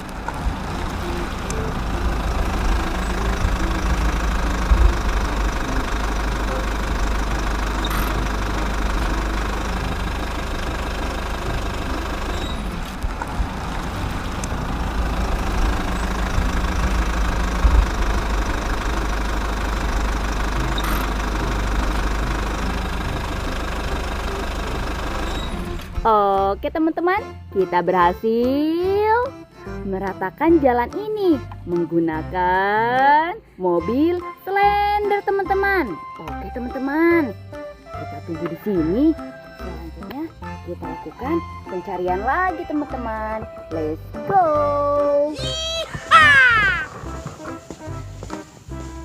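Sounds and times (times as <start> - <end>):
road roller engine knocking drone: 0.0 - 27.7, 34.2 - 49.0.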